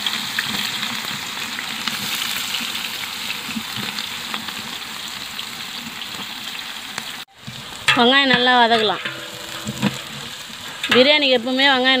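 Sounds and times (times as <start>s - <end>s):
onions sizzling in hot oil: 0.0s - 12.0s
small oil crackles: 0.0s - 12.0s.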